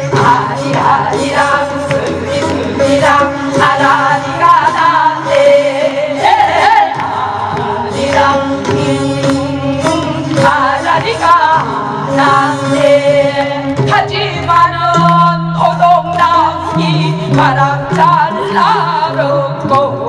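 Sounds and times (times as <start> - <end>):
amplified instrumental accompaniment: 0.0 - 20.0
women singing folk song: 0.0 - 20.0.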